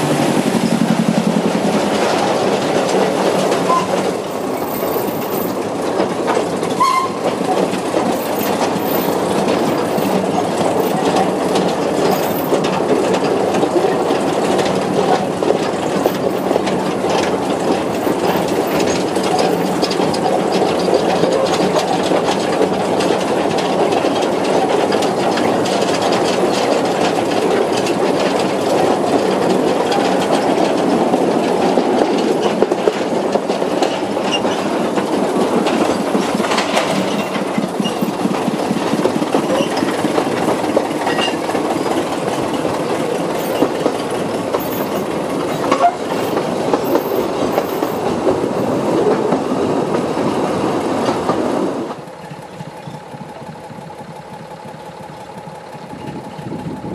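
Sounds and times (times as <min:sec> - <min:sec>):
wheels rumbling on rail: 0:00.0 - 0:56.9.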